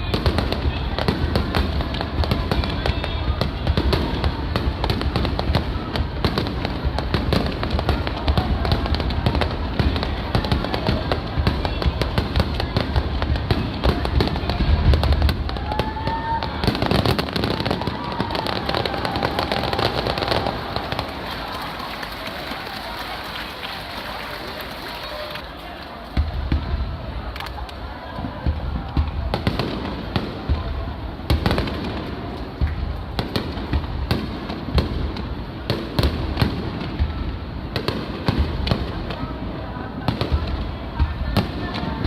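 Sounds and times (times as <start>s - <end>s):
fireworks booming: 0.0s - 22.2s, 26.0s - 42.0s
fireworks crackling: 0.0s - 42.0s.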